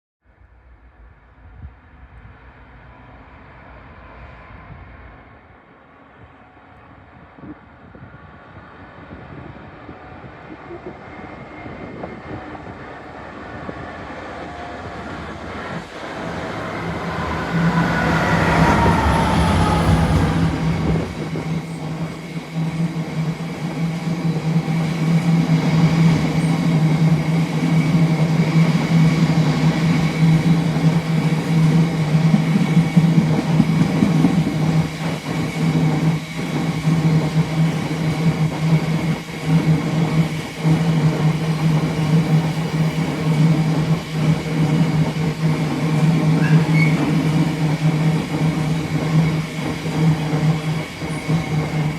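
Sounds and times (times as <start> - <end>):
diesel locomotive passing: 8.2 - 51.9
train rolling past: 10.0 - 51.9.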